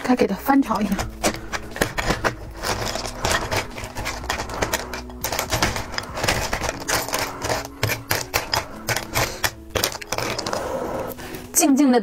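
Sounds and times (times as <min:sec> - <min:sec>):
dry ice clattering in a bowl: 0:00.0 - 0:11.2.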